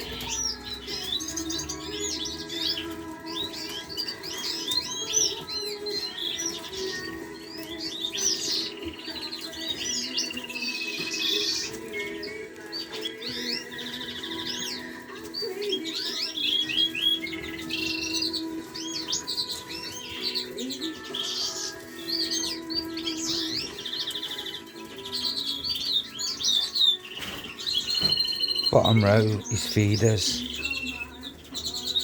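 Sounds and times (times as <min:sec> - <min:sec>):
canaries and finches singing: 0:00.0 - 0:32.0.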